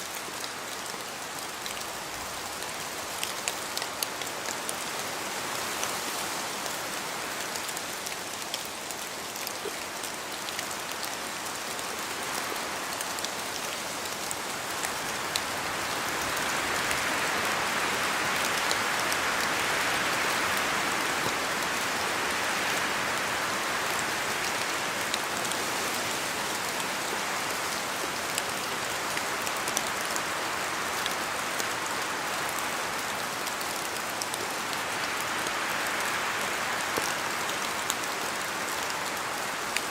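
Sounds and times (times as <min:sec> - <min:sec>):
rain falling through trees: 0:00.0 - 0:39.9.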